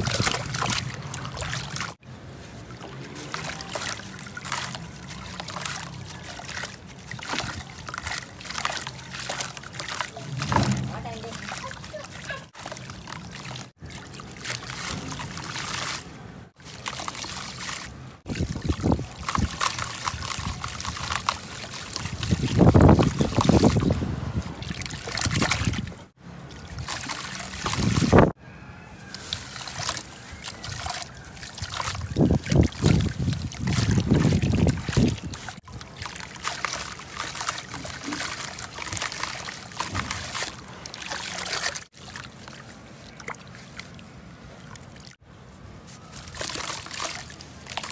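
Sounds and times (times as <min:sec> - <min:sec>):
water splashing: 0:00.0 - 0:28.4, 0:29.0 - 0:45.2, 0:45.8 - 0:47.9
water trickling and sloshing: 0:00.0 - 0:28.4, 0:29.0 - 0:47.9.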